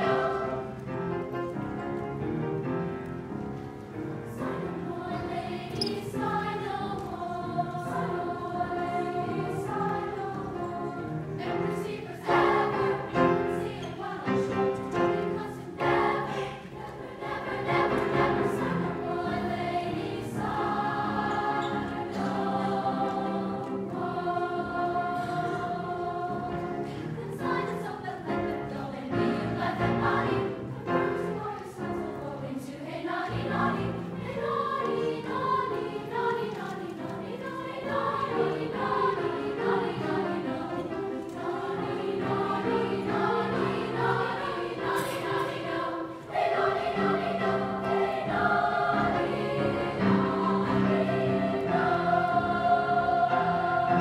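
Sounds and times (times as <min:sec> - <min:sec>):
children's chorus singing: 0:00.0 - 0:02.4, 0:03.8 - 0:54.0
grand piano: 0:00.0 - 0:54.0.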